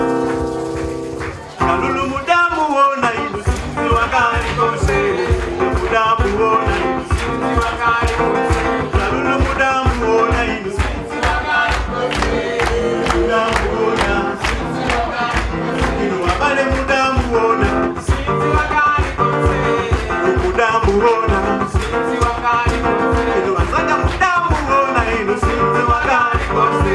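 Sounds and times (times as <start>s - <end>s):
fast drum beat: 0.0s - 2.3s, 3.4s - 26.9s
guitar: 0.0s - 26.9s
live band music: 0.0s - 26.9s
person singing: 1.6s - 26.9s.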